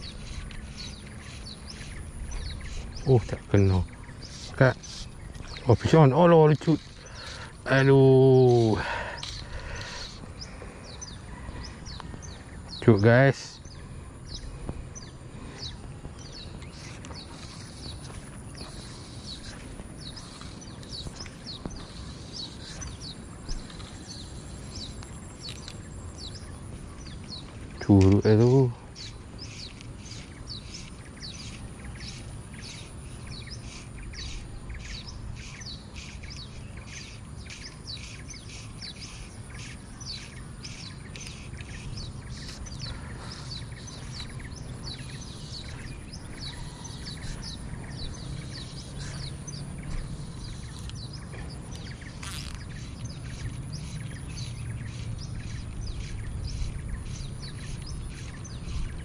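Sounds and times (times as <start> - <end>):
birds chirping: 0.0 - 59.0
steady low rumble: 0.0 - 59.0.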